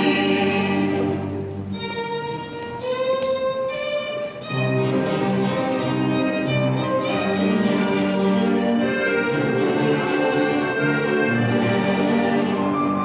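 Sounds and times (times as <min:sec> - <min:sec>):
string melody of held notes: 0:00.0 - 0:13.0.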